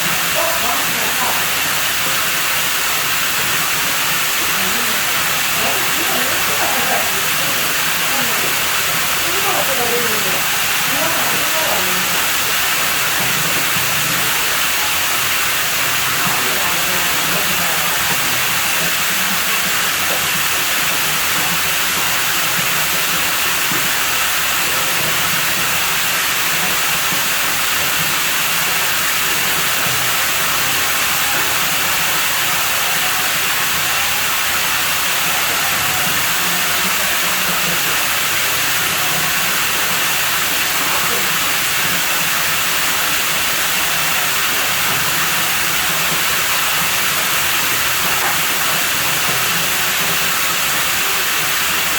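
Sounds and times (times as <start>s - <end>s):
water running into a pool: 0.0s - 51.9s.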